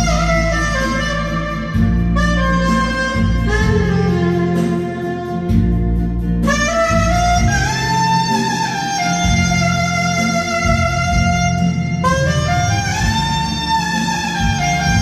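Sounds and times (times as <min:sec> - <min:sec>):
backing accompaniment with bass: 0:00.0 - 0:15.0
saxophone ballad melody: 0:00.0 - 0:15.0.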